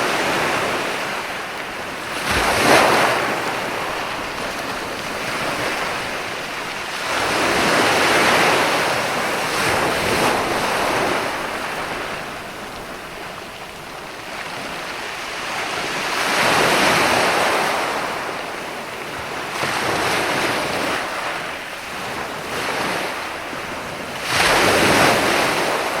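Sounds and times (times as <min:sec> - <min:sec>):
sea waves breaking on beach: 0:00.0 - 0:26.0.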